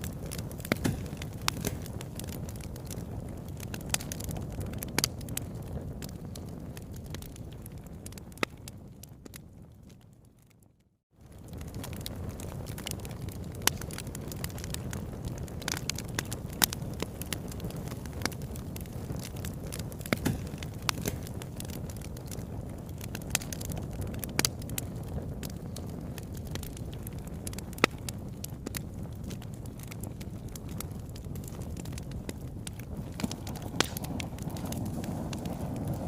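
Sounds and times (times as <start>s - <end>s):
fire crackling and popping: 0.0s - 36.0s.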